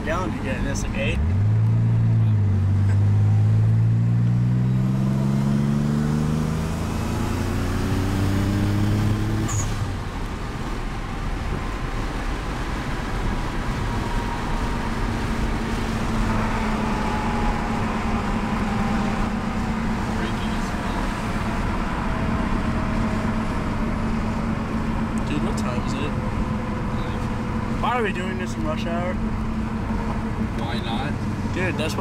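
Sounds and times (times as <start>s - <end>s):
car engine accelerating: 0.0s - 32.0s
road noise: 0.0s - 32.0s.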